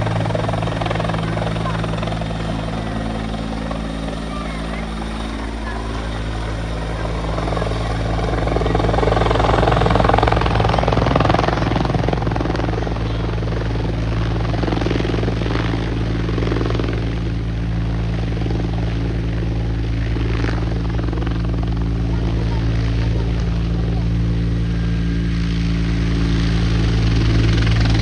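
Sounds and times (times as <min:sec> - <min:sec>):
helicopter engine whine: 0:00.0 - 0:28.0
helicopter rotor chop: 0:00.0 - 0:28.0.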